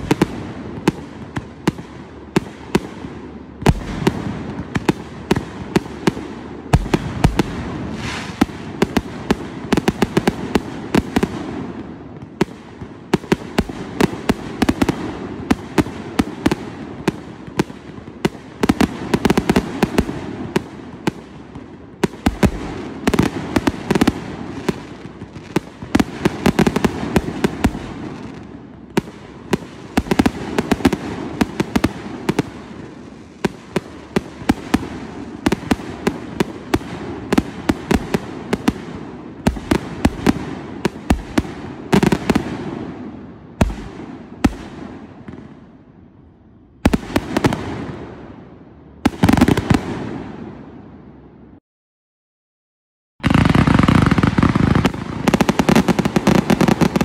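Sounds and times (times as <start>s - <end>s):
fireworks banging and crackling: 0.0s - 45.9s, 46.8s - 51.0s, 53.2s - 57.0s.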